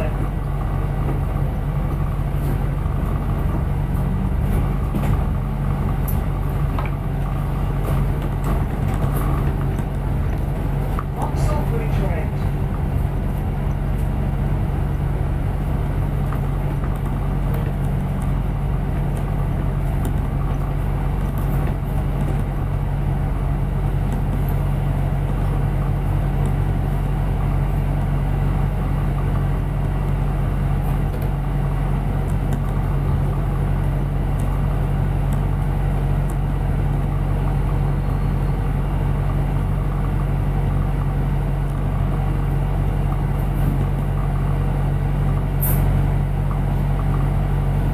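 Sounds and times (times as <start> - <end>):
bus engine drone: 0.0 - 47.9
road rumble: 0.0 - 47.9.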